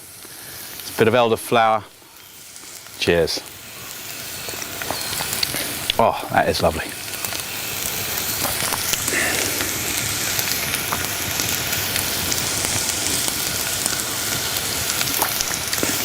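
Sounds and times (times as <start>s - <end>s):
greens frying in oil: 0.0s - 16.0s.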